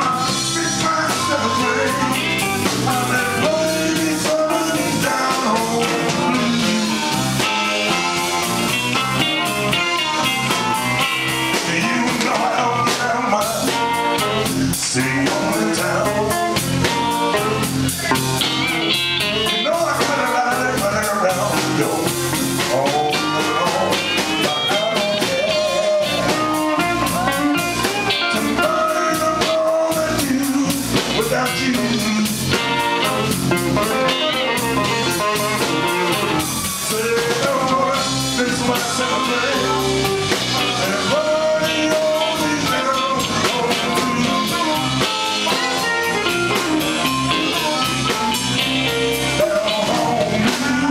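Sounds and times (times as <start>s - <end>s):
amplified harmonica: 0.0s - 12.8s, 21.2s - 50.8s
blues band playing: 0.0s - 50.9s.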